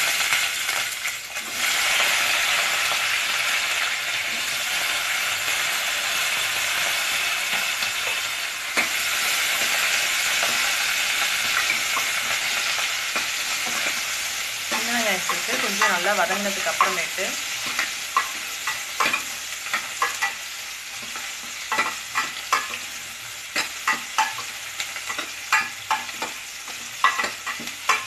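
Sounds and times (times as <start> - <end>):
shallots sizzling in hot oil: 0.0 - 28.0.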